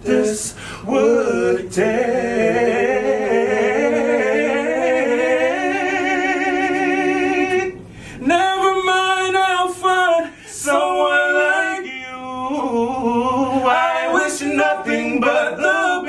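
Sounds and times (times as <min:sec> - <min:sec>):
two voices singing in harmony: 0:00.0 - 0:16.0.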